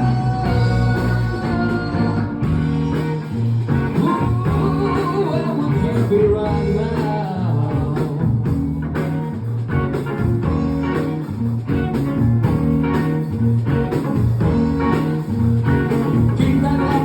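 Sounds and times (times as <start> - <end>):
bass: 0.0 - 17.0
drums: 0.0 - 17.0
guitar: 0.0 - 17.0.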